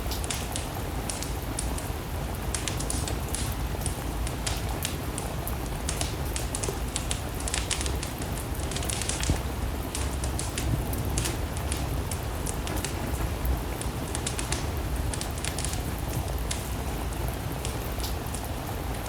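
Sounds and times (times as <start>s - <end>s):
steady rain falling: 0.0s - 19.0s
wood fire crackling and popping: 0.1s - 18.7s.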